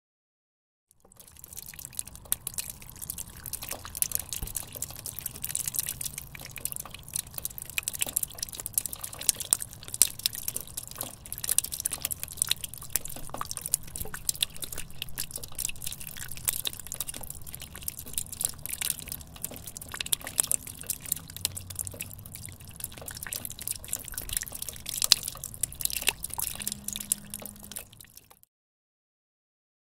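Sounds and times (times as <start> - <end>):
water dripping down a drainpipe: 0.9 - 28.5.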